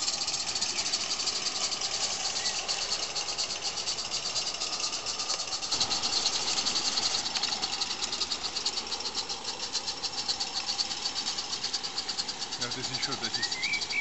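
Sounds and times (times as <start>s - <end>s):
insects chirping: 0.0s - 14.0s
model steam train rattling on track: 0.0s - 14.0s.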